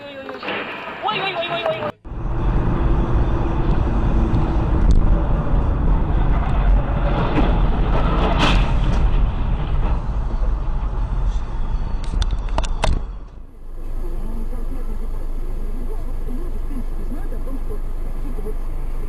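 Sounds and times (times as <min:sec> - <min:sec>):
vehicle engine and road noise: 0:01.4 - 0:19.0.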